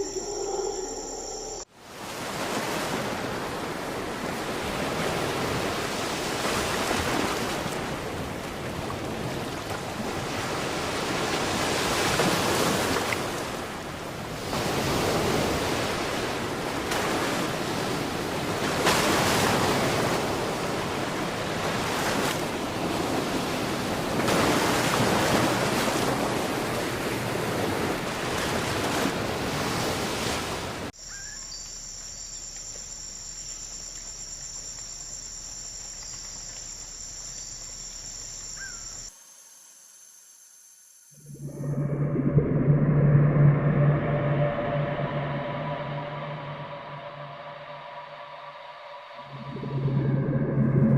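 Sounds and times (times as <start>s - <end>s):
crickets chirping: 0.0s - 1.7s, 2.5s - 28.7s, 31.0s - 41.8s, 44.0s - 50.7s.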